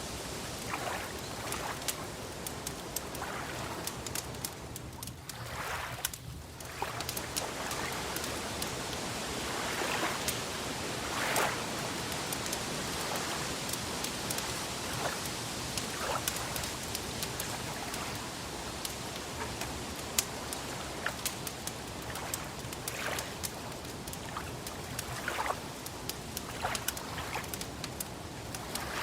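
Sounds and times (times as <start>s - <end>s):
lake water lapping: 0.0s - 29.0s
steady hiss: 0.0s - 29.0s
wood fire popping: 0.6s - 9.1s, 10.2s - 29.0s.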